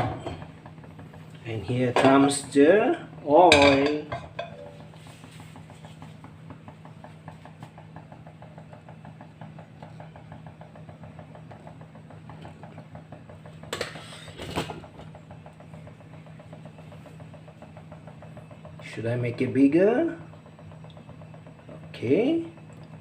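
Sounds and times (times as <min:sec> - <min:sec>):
oil heating in a pot: 0:00.0 - 0:23.0.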